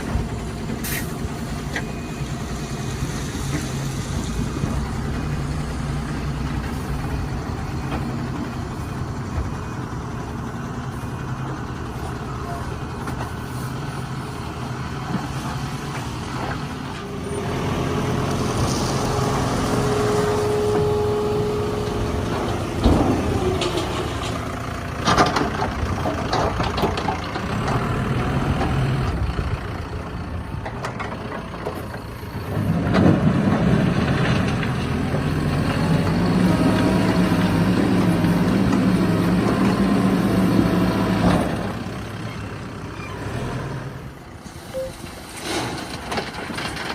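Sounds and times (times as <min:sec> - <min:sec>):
diesel engine working under load: 0:00.0 - 0:46.9.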